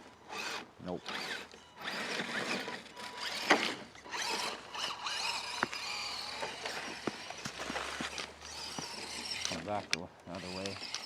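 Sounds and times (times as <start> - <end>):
electric motor and gears whining: 0.0 - 11.0.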